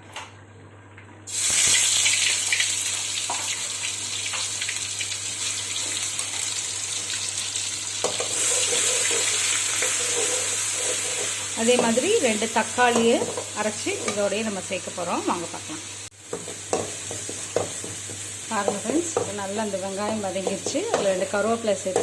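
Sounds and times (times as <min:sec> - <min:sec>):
paste sizzling in hot oil: 0:01.3 - 0:21.4.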